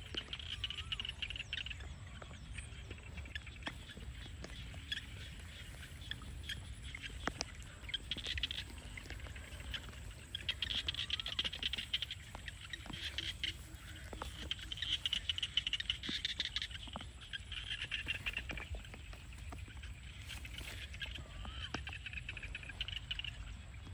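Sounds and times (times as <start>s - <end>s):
frogs trilling: 0.0s - 23.9s.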